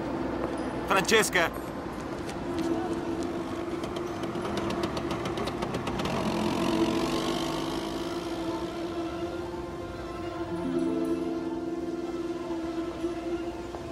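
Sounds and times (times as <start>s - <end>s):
street ambience: 0.0s - 13.9s
soft orchestral chords: 2.4s - 13.9s.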